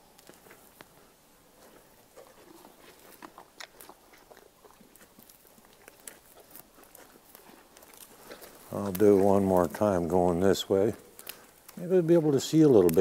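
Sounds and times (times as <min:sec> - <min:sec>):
horse crunches and clicks: 0:00.0 - 0:13.0.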